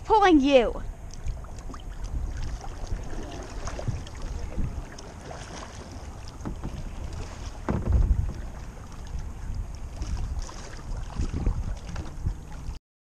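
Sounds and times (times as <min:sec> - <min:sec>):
paddle water splashing: 0:00.0 - 0:12.8
rush of water: 0:00.0 - 0:12.8
wind on microphone: 0:00.8 - 0:12.8.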